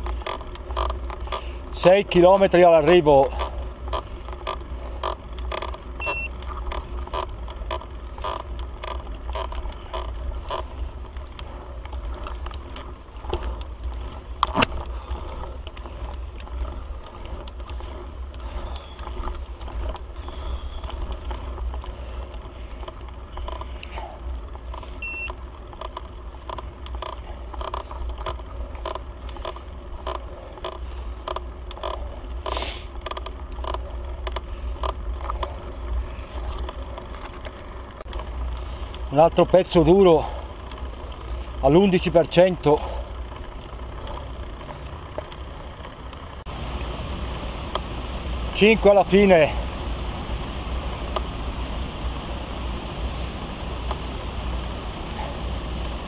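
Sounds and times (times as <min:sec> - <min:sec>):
bicycle clicking and rattling: 0:00.0 - 0:56.0
steady low rumble: 0:00.0 - 0:56.0.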